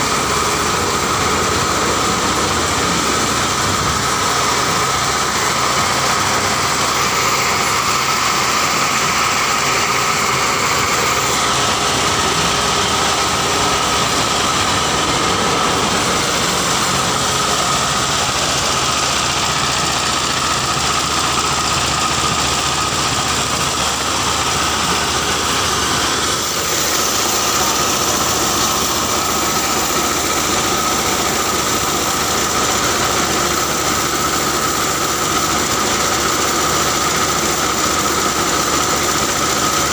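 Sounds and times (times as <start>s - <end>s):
grinding mill droning: 0.0s - 39.9s.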